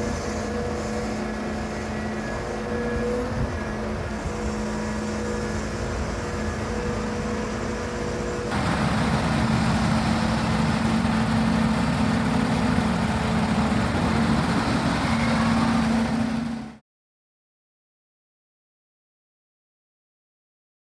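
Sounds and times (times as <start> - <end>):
diesel engines running: 0.0 - 16.8.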